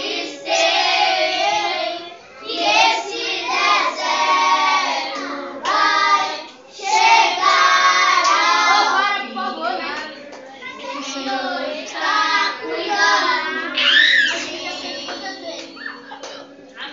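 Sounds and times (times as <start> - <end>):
children singing: 0.0 - 16.6.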